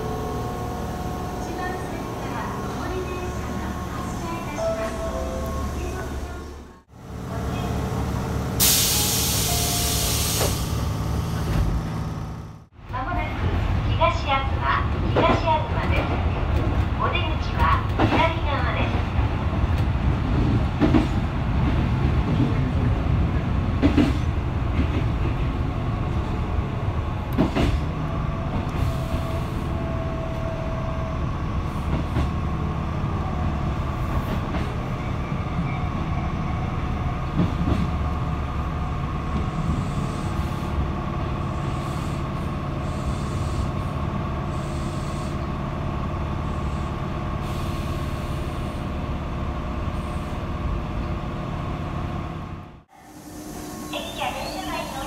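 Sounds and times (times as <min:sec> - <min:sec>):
steady train whine: 0:00.0 - 0:13.9, 0:19.6 - 0:55.0
train wheels rumbling on rail: 0:00.0 - 0:52.9.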